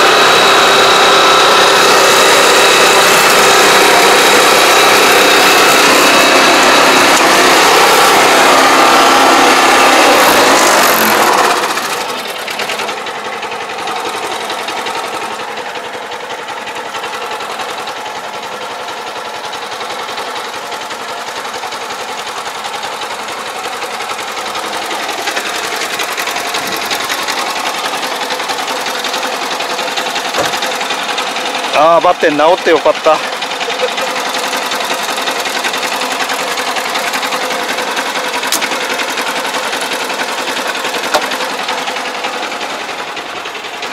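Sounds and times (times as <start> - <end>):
engine and spray pump chattering: 0.0 - 43.9.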